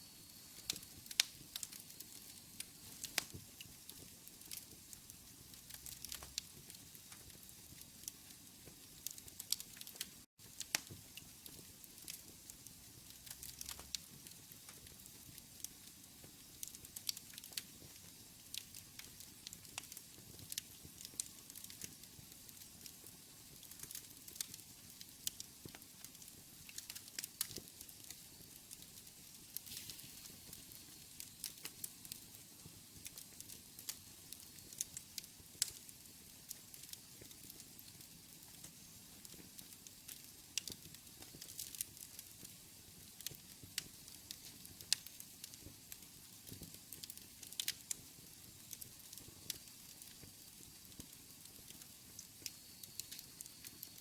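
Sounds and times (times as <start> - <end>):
fire crackling and popping: 0.0 - 54.0
fire hissing: 0.0 - 54.0.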